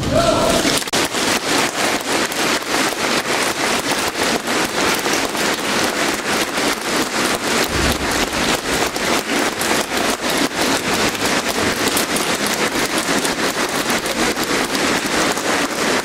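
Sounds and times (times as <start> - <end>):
audience clapping in unison: 0.0 - 16.0.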